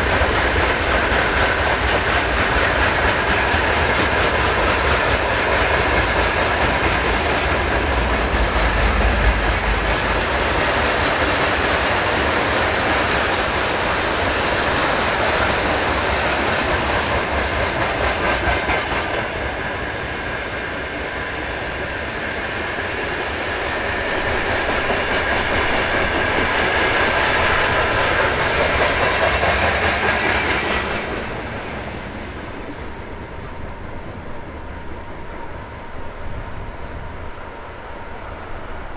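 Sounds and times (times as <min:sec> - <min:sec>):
freight train wagons rolling past: 0:00.0 - 0:38.9.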